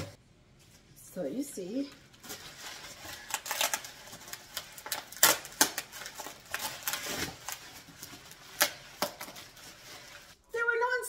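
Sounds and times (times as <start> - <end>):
plastic and bubble wrap crinkling: 0.0 - 10.4.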